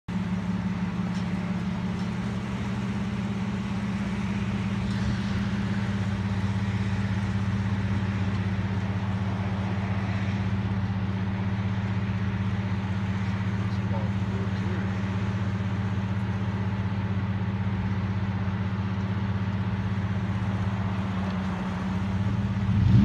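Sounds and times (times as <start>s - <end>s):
pickup truck driving past: 0.1s - 23.0s
vehicle engine idling: 0.1s - 23.0s.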